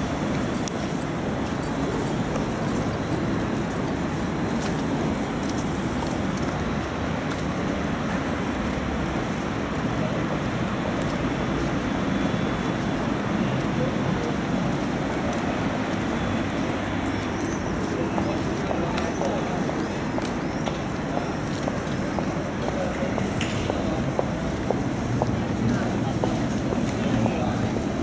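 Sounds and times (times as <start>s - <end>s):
faint voices of passers-by: 0.0s - 28.0s
road traffic noise: 0.0s - 28.0s.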